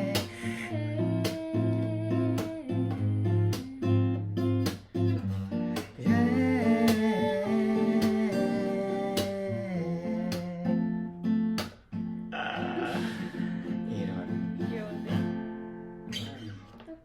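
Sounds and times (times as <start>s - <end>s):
strummed acoustic guitar chords: 0.0s - 16.8s.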